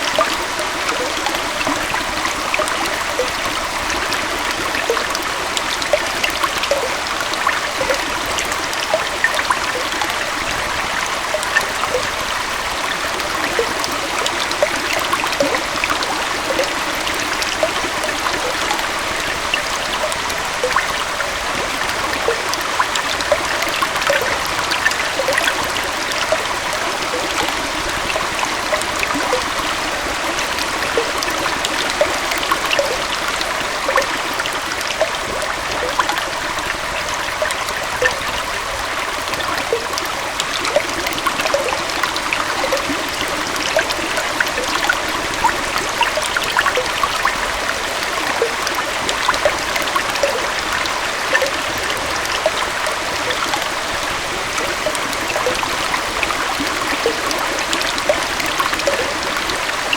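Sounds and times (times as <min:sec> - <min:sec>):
water rushing over small waterfall: 0:00.0 - 0:59.9
water splashing and gurgling: 0:00.0 - 0:59.9.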